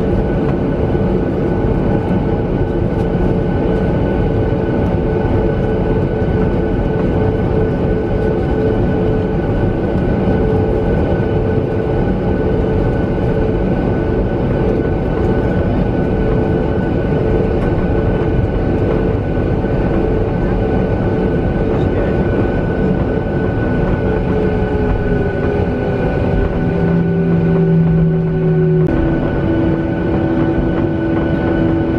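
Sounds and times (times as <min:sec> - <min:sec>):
jet engines idling in cabin: 0:00.0 - 0:31.9.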